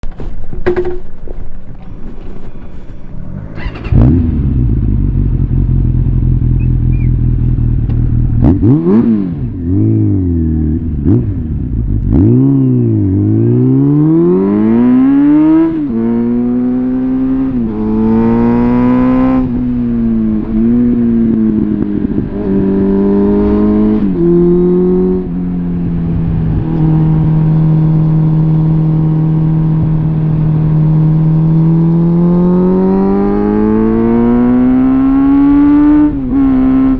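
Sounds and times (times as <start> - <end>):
motorcycle engine revving: 2.9 - 36.9.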